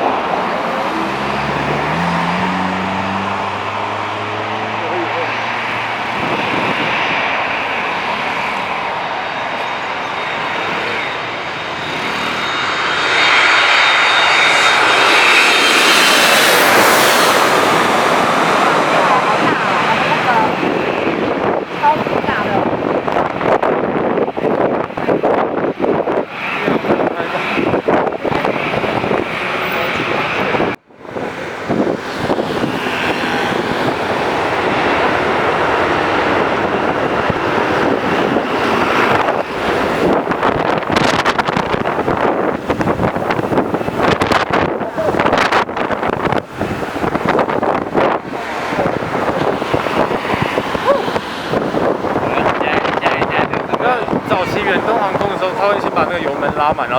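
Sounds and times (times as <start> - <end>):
airliner engines roaring: 0.0 - 56.9
wind buffeting microphone: 0.0 - 56.9.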